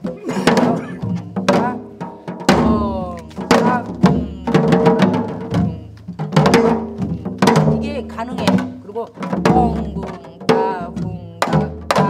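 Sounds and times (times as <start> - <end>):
hourglass drum strokes: 0.0 - 12.0.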